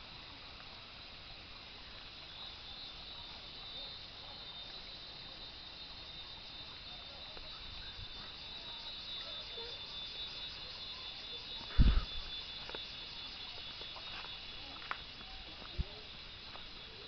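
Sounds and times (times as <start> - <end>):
forest insects chorus: 0.0 - 17.0.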